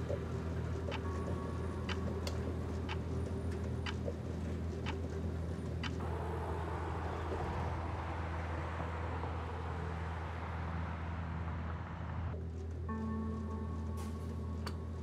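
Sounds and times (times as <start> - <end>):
distant street traffic: 0.0 - 12.4
steady low hum: 0.0 - 15.0.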